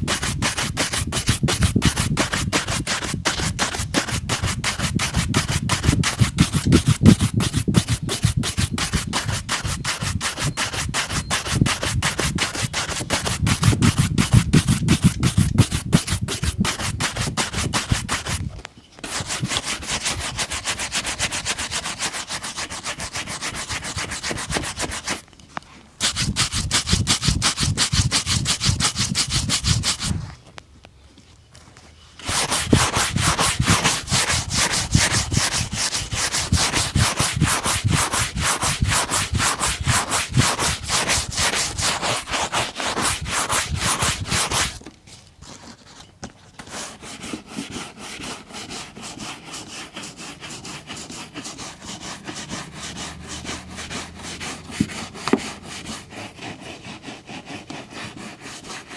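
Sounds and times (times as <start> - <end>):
rubbing strokes on a boot: 0.0 - 25.2, 26.0 - 30.3, 32.2 - 44.8, 46.7 - 58.9.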